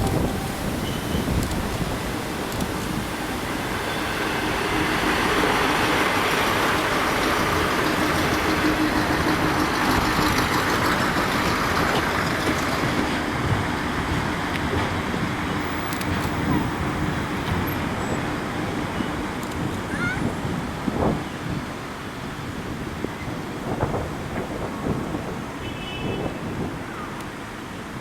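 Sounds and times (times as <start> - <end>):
electric train running past: 0.0 - 25.6.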